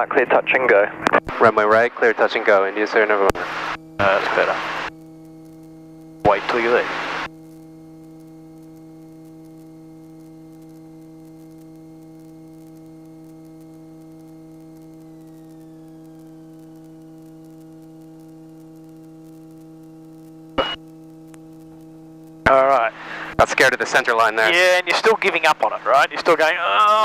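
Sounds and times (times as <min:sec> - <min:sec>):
electrical hum: 0:00.0 - 0:27.0
faint high whine: 0:00.0 - 0:27.0.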